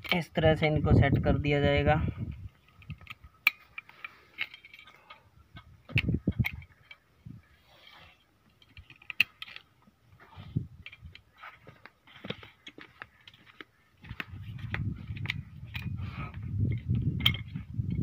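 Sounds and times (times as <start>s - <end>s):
metallic clicks and scraping: 0.0s - 0.4s, 2.2s - 18.0s.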